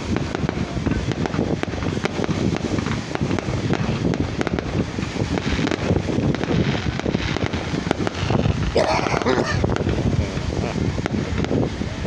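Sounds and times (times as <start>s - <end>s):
fireworks popping and crackling: 0.0s - 12.0s
wind buffeting microphone: 0.0s - 12.0s.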